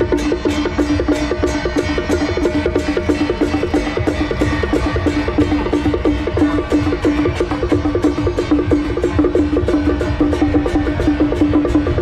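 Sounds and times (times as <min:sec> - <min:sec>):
low drums: 0:00.0 - 0:12.0
woodblock notes: 0:00.0 - 0:12.0.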